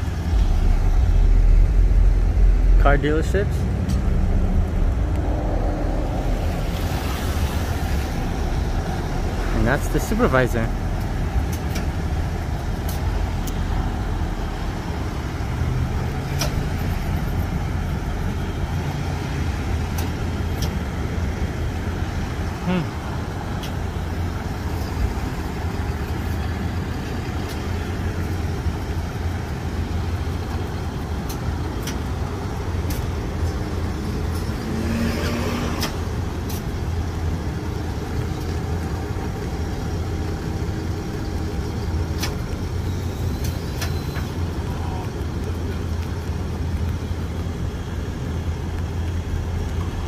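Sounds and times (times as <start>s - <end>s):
truck engine running: 0.0s - 34.8s, 35.5s - 50.0s.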